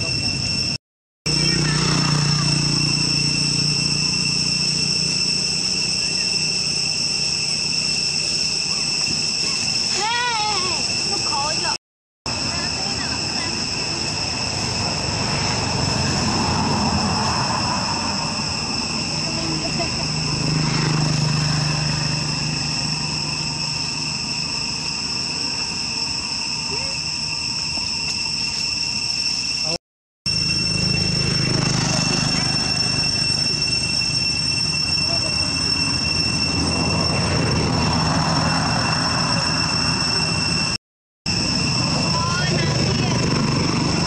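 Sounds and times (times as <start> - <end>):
high-pitched insect drone: 0.0 - 44.0.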